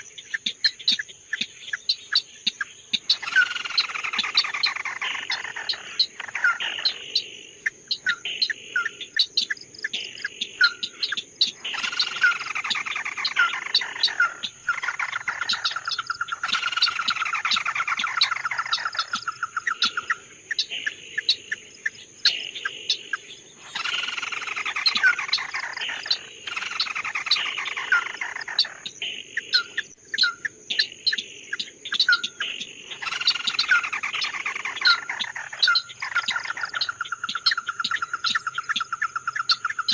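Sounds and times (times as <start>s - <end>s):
bird trilling: 0.0s - 39.9s
songbird singing whistled notes: 0.0s - 39.9s.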